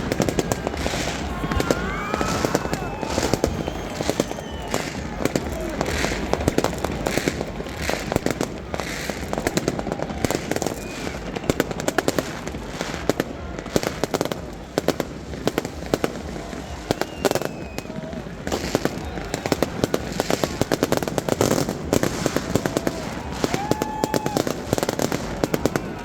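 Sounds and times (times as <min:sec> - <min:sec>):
distant fireworks rumble: 0:00.0 - 0:26.0
firecrackers banging and crackling: 0:00.0 - 0:26.0.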